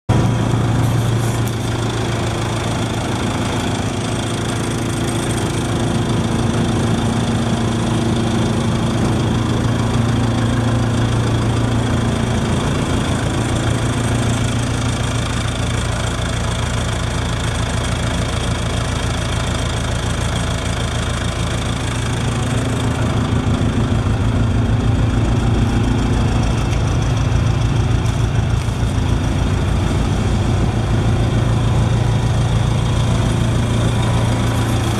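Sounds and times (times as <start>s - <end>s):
tug engine idling: 0.1s - 34.9s.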